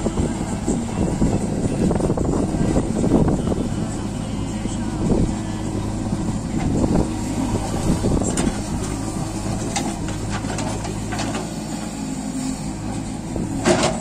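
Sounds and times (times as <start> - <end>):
diesel engines running: 0.0 - 14.0.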